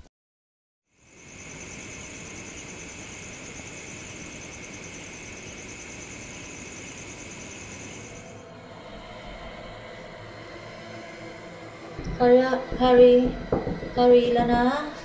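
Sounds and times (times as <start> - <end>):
night insects chirring: 0.9 - 14.5.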